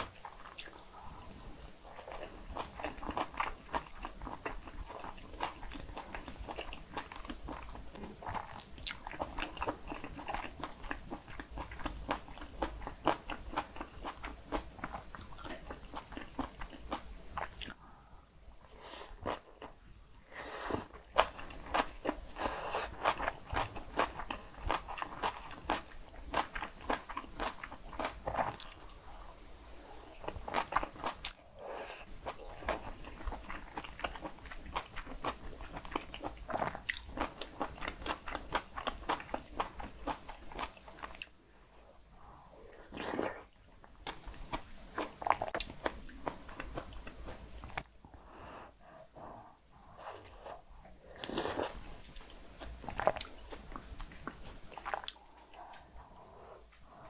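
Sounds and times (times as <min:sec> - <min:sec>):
close chewing and crunching: 0:00.0 - 0:17.8, 0:20.9 - 0:29.2, 0:29.8 - 0:41.3, 0:42.7 - 0:47.9, 0:51.2 - 0:57.0.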